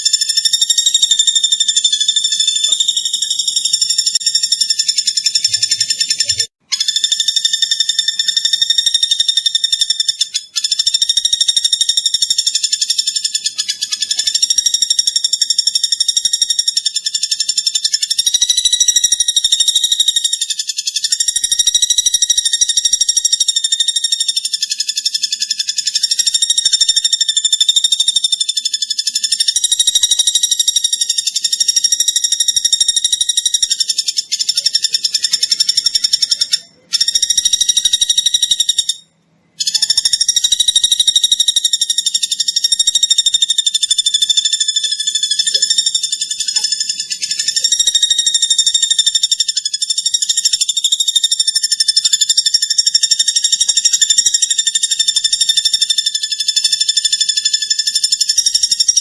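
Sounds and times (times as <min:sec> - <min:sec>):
bird calling in a buzzy trill: 0:00.0 - 0:59.0.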